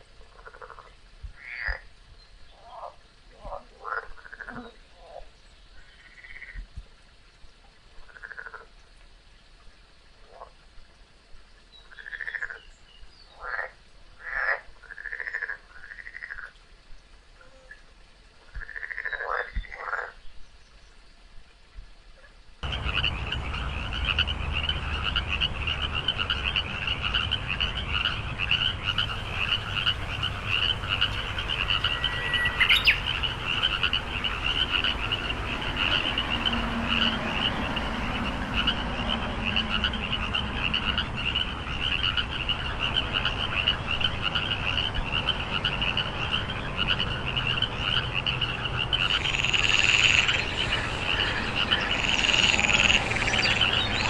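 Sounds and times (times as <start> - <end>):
frogs croaking: 0.0 - 1.9, 2.5 - 5.2, 5.8 - 6.6, 8.1 - 8.7, 11.7 - 16.6, 18.4 - 20.2, 22.6 - 54.0.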